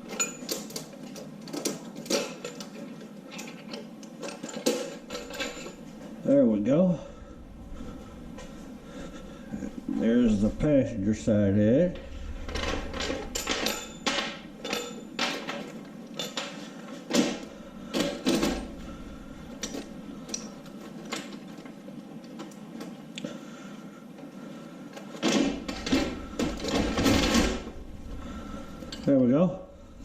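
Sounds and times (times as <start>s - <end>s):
engine parts clattering: 0.0s - 6.2s, 7.8s - 21.8s, 25.0s - 30.0s.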